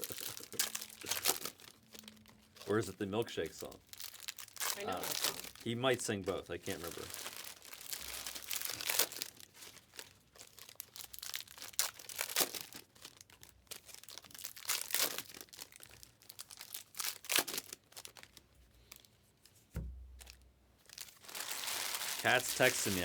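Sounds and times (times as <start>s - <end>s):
wrapping crinkling and tearing: 0.0s - 19.6s, 20.2s - 23.0s.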